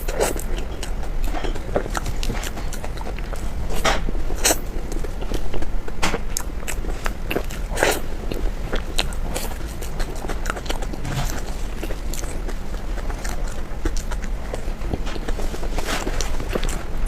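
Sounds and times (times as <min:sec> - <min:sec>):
chewing and mouth clicks: 0:00.0 - 0:17.0
low hum: 0:00.0 - 0:17.0.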